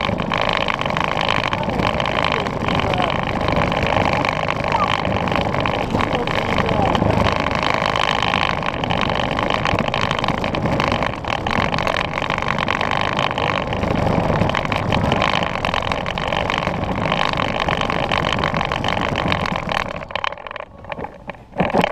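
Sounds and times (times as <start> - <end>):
plastic wheels rumbling on asphalt: 0.0 - 21.9.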